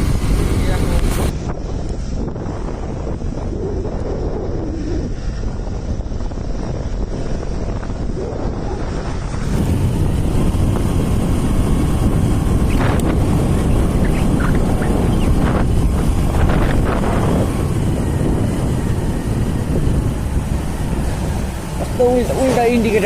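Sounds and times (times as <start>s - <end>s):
motorcycle ride rumble: 0.0s - 23.0s
wind buffeting microphone: 0.0s - 23.0s.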